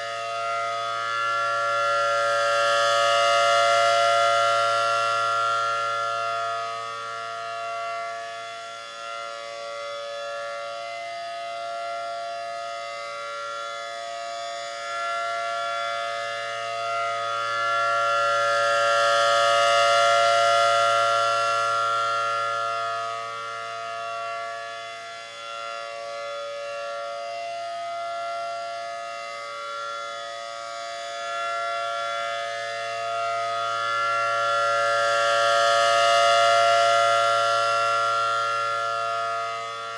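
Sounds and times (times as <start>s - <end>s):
outdoor warning siren steady chord: 0.0s - 39.9s.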